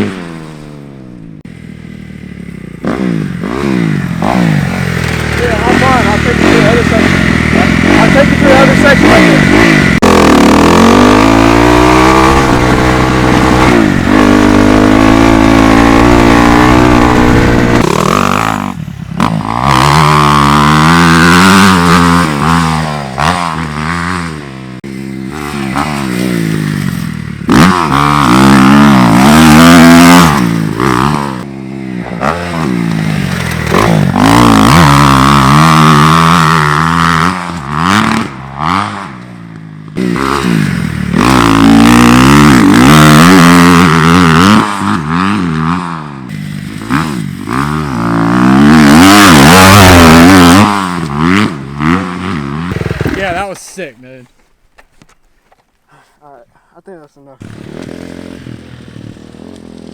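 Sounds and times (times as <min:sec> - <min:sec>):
dirt bike engine revving: 0:00.0 - 0:54.2, 0:57.3 - 0:59.9.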